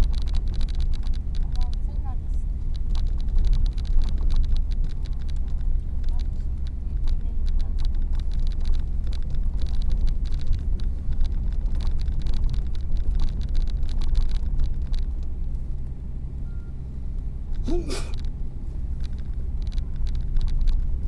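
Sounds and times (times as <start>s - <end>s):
faint clicks: 0.0s - 2.0s, 2.7s - 15.9s, 19.0s - 21.0s
car engine and road rumble: 0.0s - 21.0s.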